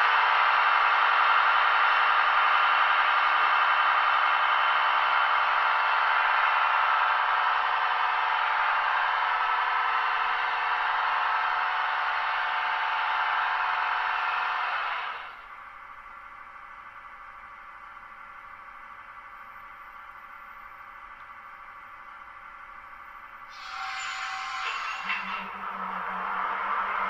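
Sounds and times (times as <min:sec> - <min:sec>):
electric locomotive hum and whine: 0:00.0 - 0:27.0.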